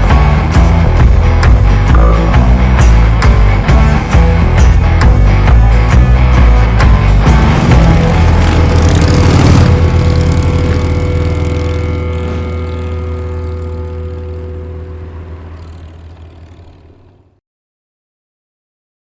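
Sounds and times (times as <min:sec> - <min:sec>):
rock music held chord: 0:00.0 - 0:15.8.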